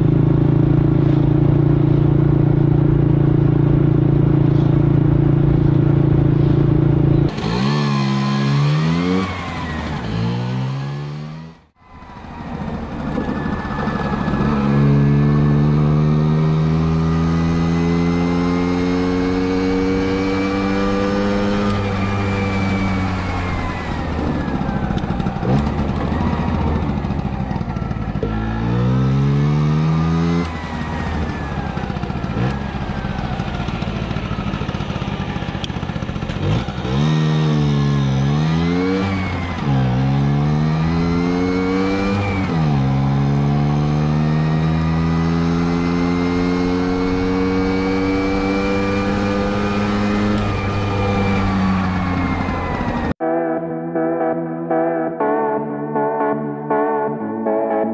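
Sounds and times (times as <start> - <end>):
moped engine revving: 0.0 - 53.3.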